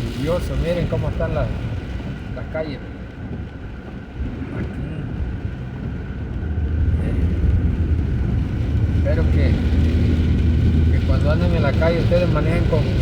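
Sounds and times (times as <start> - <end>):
road traffic noise: 0.0 - 4.2, 5.1 - 13.0
low engine rumble: 0.0 - 13.0.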